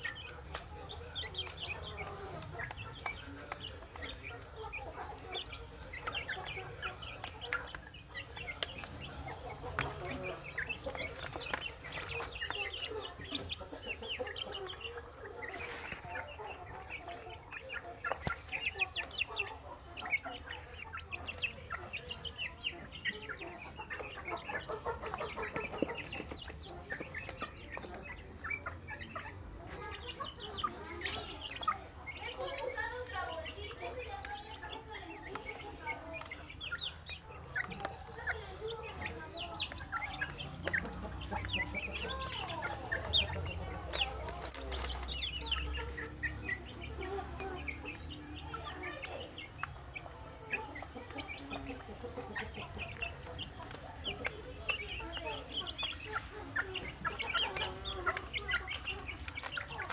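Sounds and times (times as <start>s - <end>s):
young chickens clucking and peeping: 0.0s - 59.9s.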